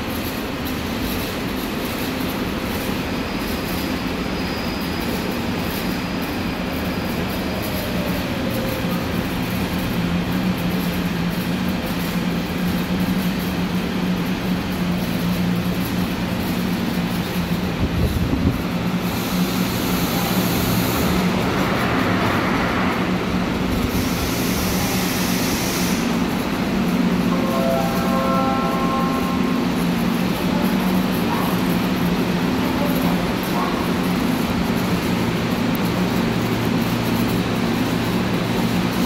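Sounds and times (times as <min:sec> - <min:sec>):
subway train rumbling: 0:00.0 - 0:39.0.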